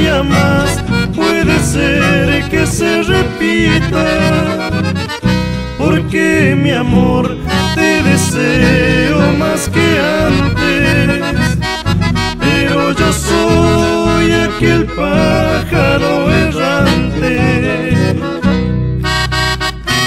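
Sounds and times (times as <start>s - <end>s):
accordion folk music: 0.0s - 20.0s
bass and rhythm accompaniment: 0.0s - 20.0s.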